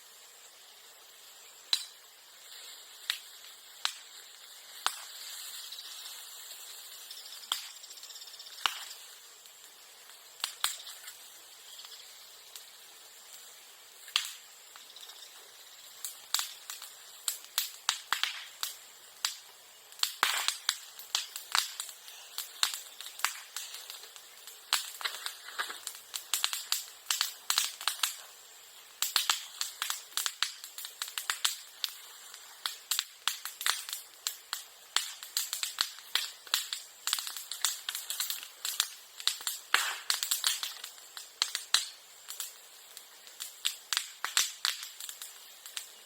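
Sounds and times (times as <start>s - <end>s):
fire hissing: 0.0s - 46.0s
bonfire popping and cracking: 1.0s - 46.0s.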